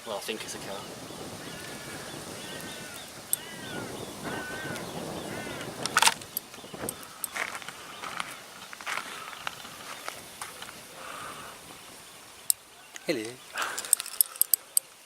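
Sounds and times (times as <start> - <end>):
bird calling: 0.4 - 15.0.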